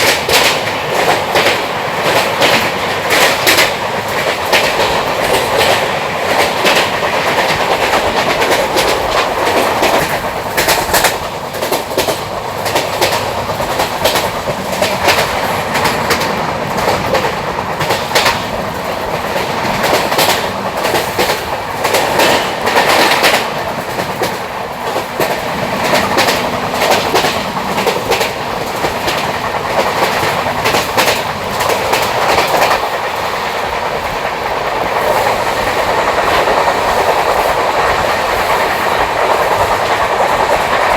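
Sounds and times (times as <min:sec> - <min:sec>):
train rumbling along track: 0:00.0 - 0:40.9
wheels clacking over rail joints: 0:00.0 - 0:40.9.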